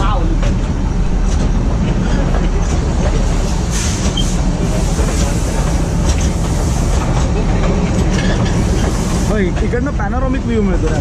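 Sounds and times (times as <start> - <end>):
train carriage rumble and rattle: 0.0 - 11.0.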